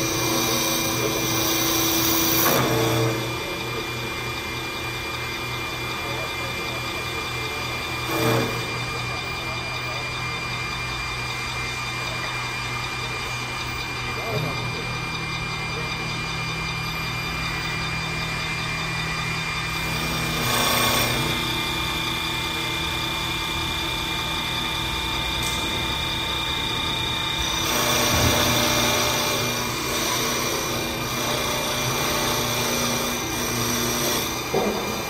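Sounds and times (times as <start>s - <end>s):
wood lathe machine whine: 0.0s - 35.0s.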